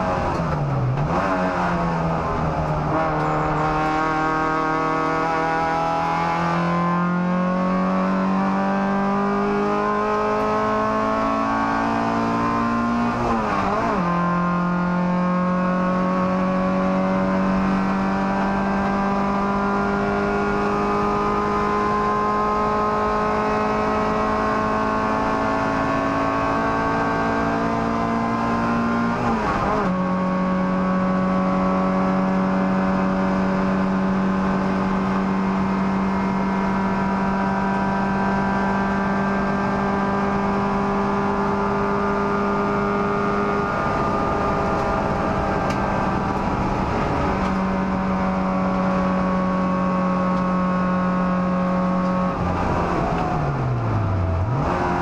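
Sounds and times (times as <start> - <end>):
car engine under full load: 0.0 - 55.0.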